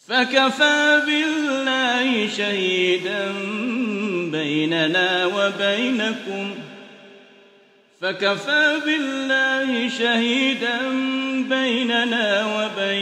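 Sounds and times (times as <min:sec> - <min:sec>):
man chanting melodically: 0:00.0 - 0:07.1, 0:08.0 - 0:13.0.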